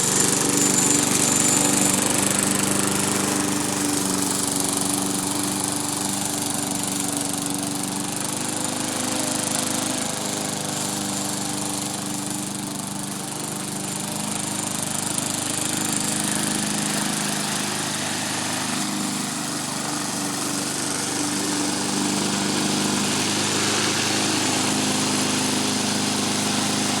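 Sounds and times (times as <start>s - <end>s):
lawn mower running: 0.0s - 27.0s.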